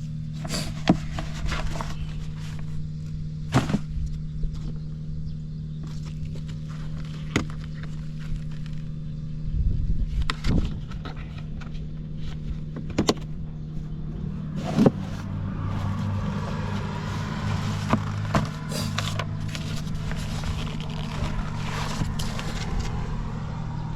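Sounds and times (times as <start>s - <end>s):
deep hum: 0.0s - 23.9s
scooter engine running: 0.0s - 23.9s.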